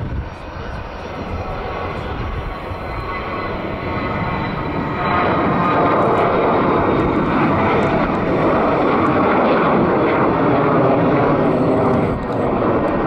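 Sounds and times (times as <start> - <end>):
jet engines rushing at takeoff: 0.0 - 13.0.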